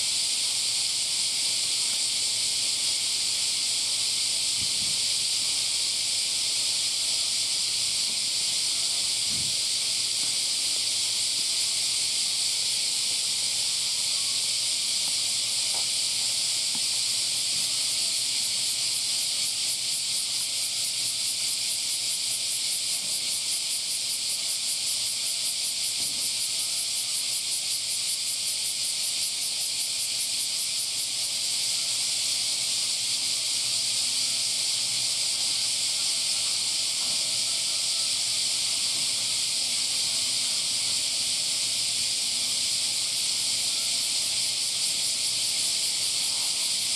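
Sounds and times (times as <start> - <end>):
cicadas chorus: 0.0 - 46.9.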